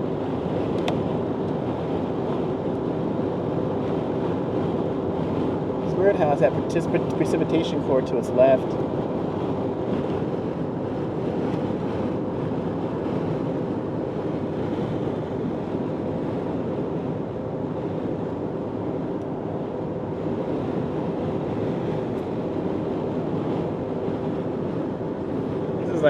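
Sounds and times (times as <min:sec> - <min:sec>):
road and wind noise in vehicle: 0:00.0 - 0:26.0.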